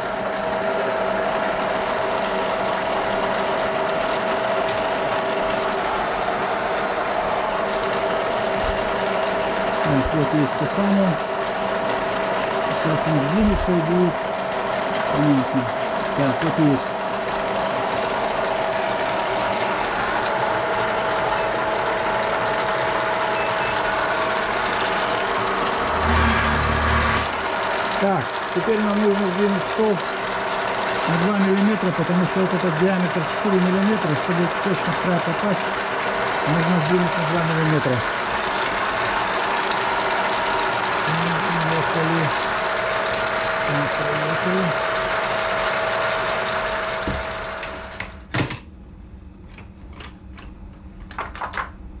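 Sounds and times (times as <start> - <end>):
milling machine gearbox whine: 0.0 - 48.4
mechanical hum: 0.0 - 52.0.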